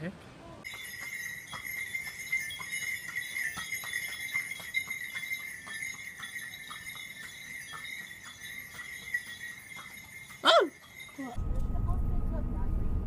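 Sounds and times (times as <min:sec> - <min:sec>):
harness bells jingling: 0:00.6 - 0:11.4
hooves clopping on road: 0:00.6 - 0:11.4.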